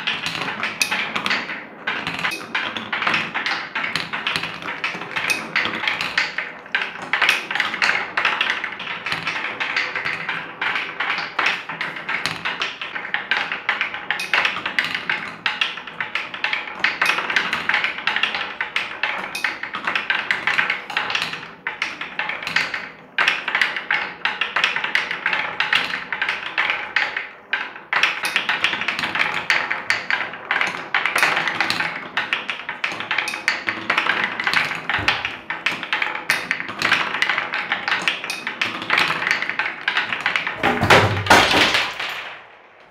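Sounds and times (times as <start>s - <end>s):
wooden balls rattling down slope: 0.0s - 42.9s.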